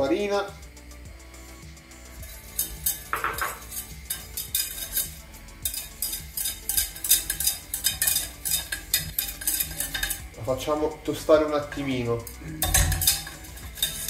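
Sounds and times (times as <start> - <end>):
whisk scraping a metal saucepan: 2.1 - 14.0.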